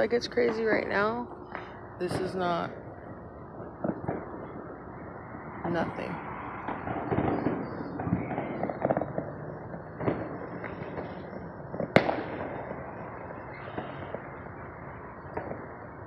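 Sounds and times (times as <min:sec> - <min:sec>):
firecrackers crackling: 0:00.0 - 0:16.0
fireworks popping and banging: 0:00.0 - 0:16.0.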